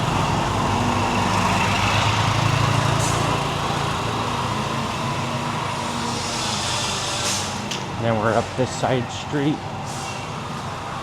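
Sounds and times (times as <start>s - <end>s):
motor scooter engines running: 0.0s - 11.0s
street traffic: 0.0s - 11.0s.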